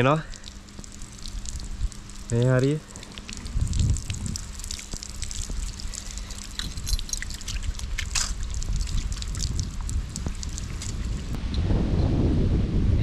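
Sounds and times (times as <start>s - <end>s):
water trickling and splashing: 0.0s - 11.4s
steady low rumble: 0.0s - 13.0s.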